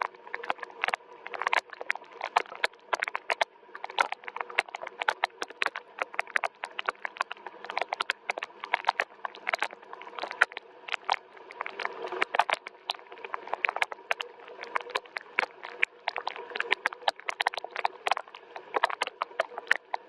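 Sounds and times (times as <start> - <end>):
raindrops tapping on hard surface: 0.0 - 20.0.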